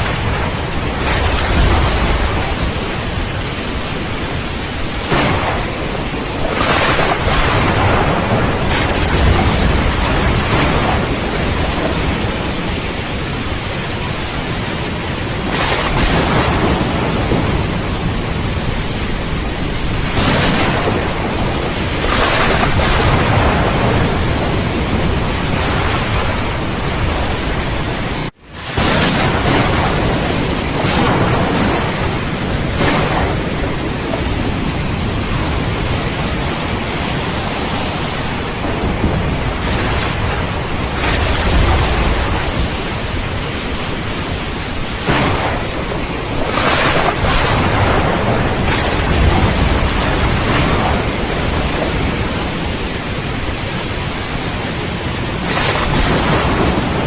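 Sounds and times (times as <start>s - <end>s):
heavy rain: 0.0s - 57.0s
thunder rolling: 0.0s - 57.0s.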